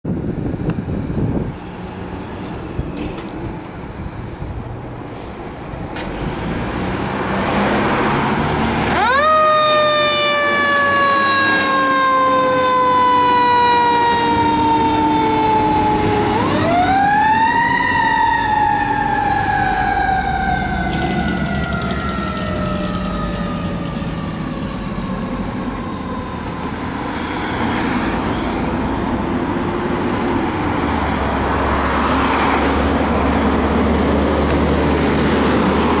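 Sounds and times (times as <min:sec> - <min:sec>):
traffic: 0:00.0 - 0:36.0
truck engine: 0:00.1 - 0:36.0
fire truck siren wailing: 0:07.2 - 0:36.0.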